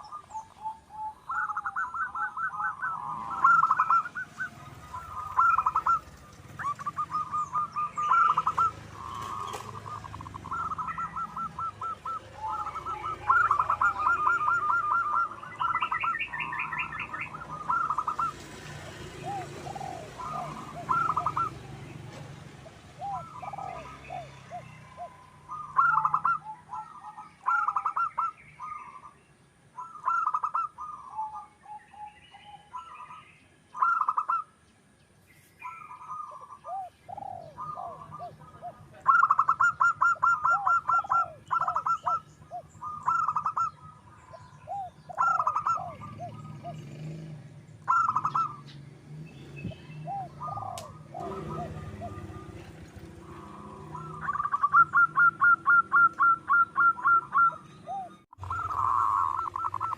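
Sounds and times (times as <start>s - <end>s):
dove cooing: 0.0s - 29.2s, 29.8s - 34.5s, 35.6s - 48.8s, 49.8s - 59.9s.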